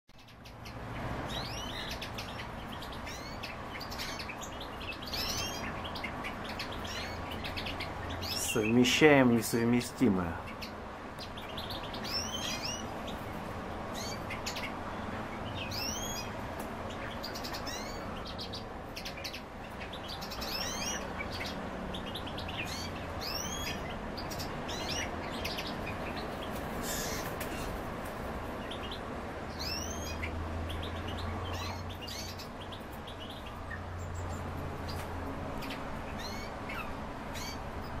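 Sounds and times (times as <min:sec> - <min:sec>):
songbirds chirping: 0:00.1 - 0:38.0.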